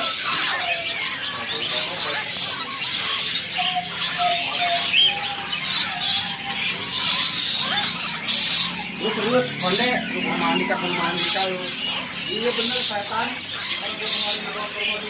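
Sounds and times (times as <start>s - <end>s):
myna bird squealing calls: 0.0s - 15.0s.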